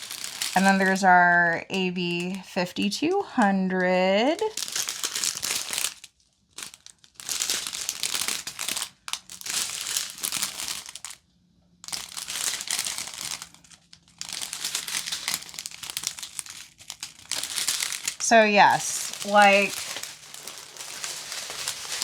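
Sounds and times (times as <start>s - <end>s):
plastic bags crinkling: 0.0s - 2.7s, 4.2s - 11.2s, 11.8s - 22.0s.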